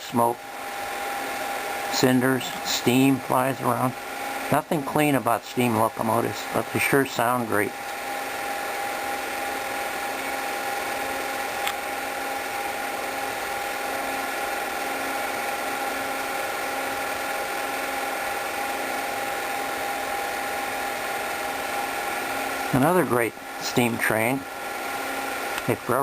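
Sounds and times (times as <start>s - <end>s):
film projector whirring: 0.0s - 26.0s.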